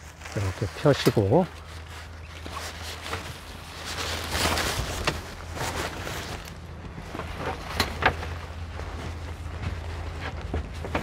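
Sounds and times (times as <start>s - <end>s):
steady low hum: 0.0s - 11.0s
tent fabric rustling: 0.0s - 11.0s.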